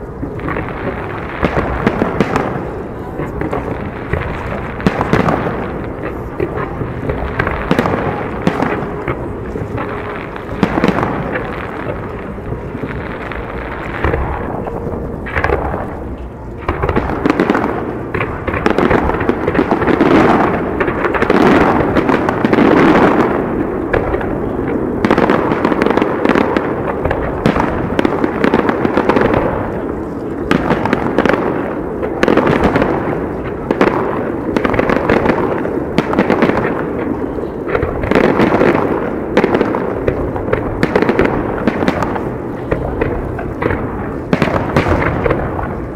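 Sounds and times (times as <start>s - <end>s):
fireworks bursts and booms: 0.0s - 45.9s
fireworks crackling: 0.0s - 45.9s.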